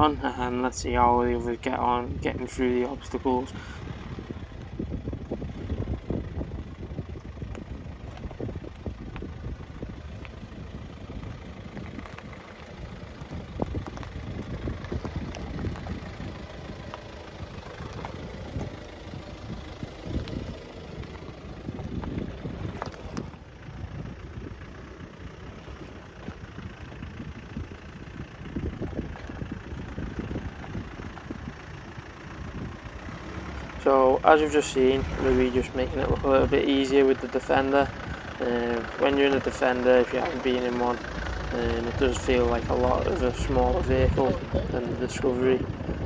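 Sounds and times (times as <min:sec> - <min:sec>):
off-road engine at low revs: 0:00.0 - 0:46.0.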